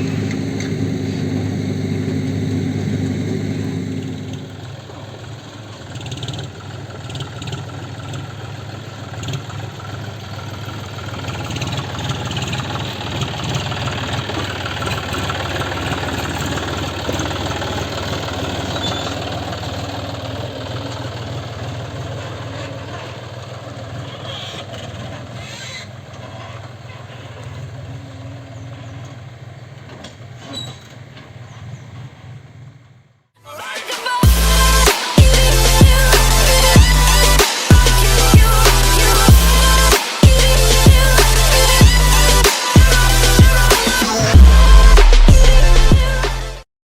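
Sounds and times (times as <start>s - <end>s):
heavy diesel machinery running: 0.0s - 32.8s, 34.2s - 46.6s.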